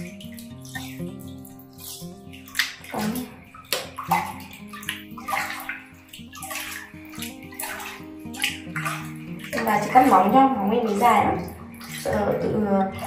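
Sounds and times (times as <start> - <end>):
soft music: 0.0 - 13.0
water splashing in plastic basin: 0.0 - 13.0.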